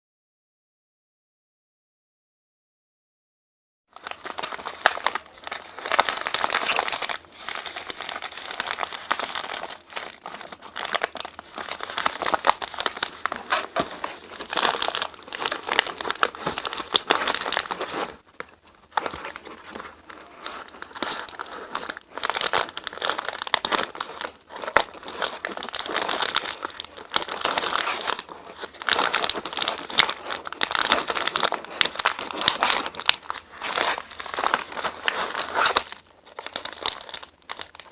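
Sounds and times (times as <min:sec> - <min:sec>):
packaging crinkling and rustling: 0:04.0 - 0:37.9.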